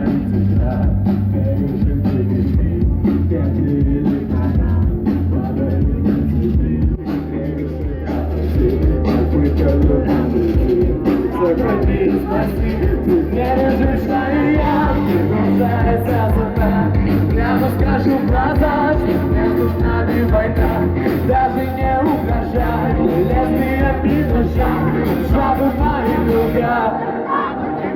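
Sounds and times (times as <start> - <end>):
live rock band playing: 0.0 - 27.9
shouted singing: 4.1 - 27.9.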